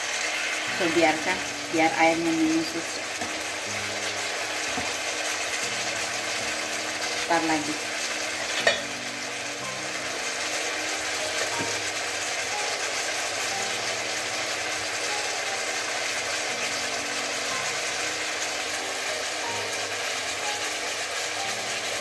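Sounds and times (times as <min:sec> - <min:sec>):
sauce bubbling and sizzling in a wok: 0:00.0 - 0:22.0.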